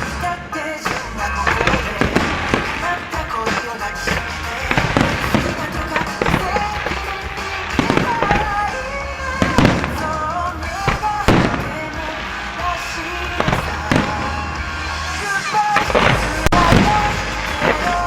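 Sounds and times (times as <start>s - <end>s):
pop music over loudspeakers: 0.0s - 18.0s
firework shells bursting: 0.8s - 18.0s.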